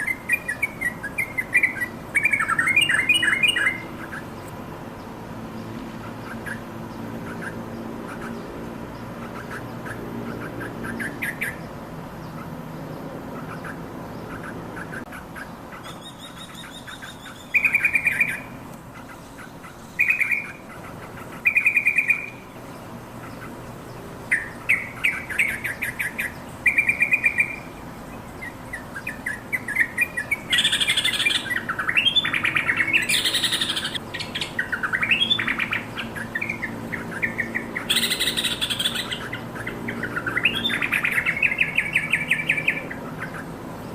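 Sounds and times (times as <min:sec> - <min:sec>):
bulbul chattering song: 0:00.0 - 0:05.2, 0:06.0 - 0:12.6, 0:13.3 - 0:43.9.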